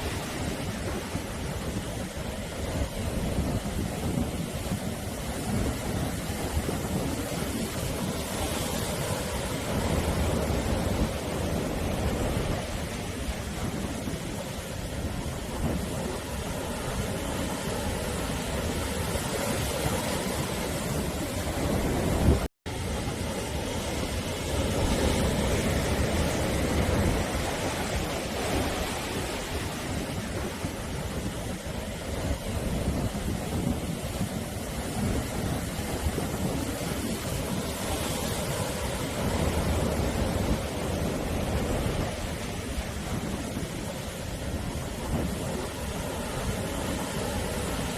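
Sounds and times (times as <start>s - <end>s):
waves breaking: 0.0s - 47.9s.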